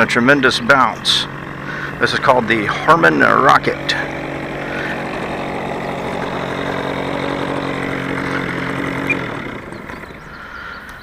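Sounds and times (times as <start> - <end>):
model airplane engine idling: 0.0 - 11.0.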